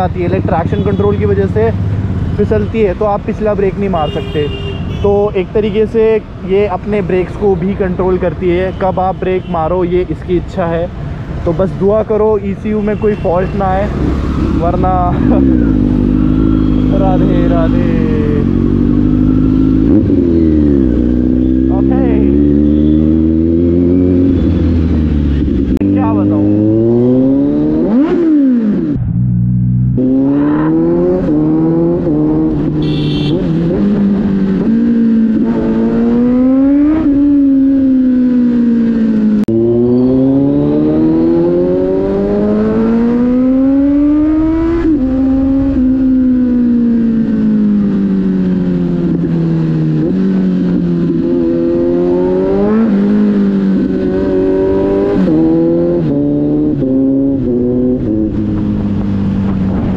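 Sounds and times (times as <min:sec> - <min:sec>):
motorcycle engine revving: 0:11.6 - 0:59.9.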